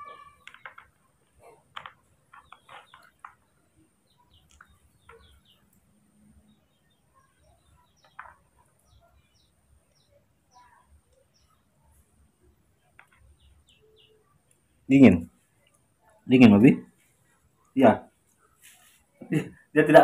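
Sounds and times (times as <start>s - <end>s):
faint bird chirps: 0.0s - 19.7s.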